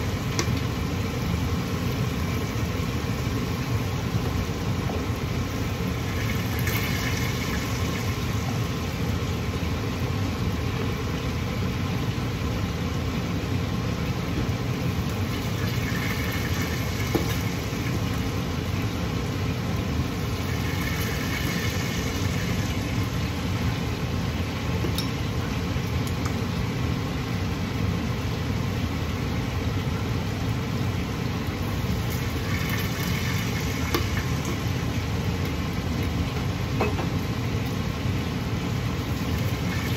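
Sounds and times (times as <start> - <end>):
range hood fan humming: 0.0 - 39.9.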